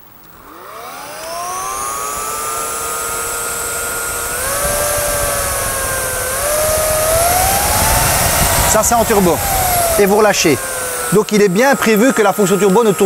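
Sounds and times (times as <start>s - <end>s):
vacuum motor whining hum: 0.0s - 13.0s.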